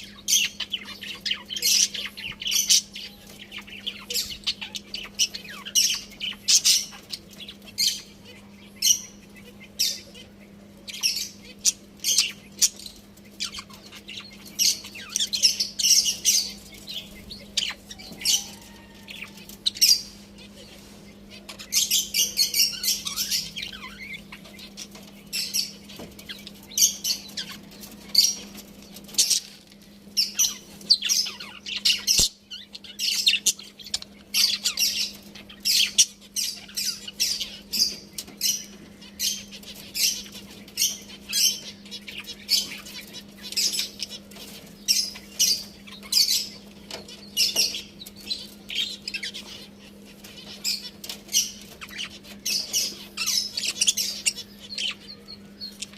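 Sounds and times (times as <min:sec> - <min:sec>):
budgerigars chirping and squawking: 0:00.0 - 0:55.9
steady low hum: 0:00.0 - 0:55.9.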